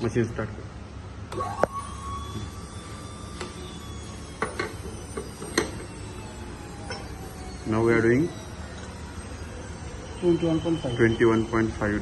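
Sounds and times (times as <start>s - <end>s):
grinder motor humming and whining: 1.3s - 12.0s.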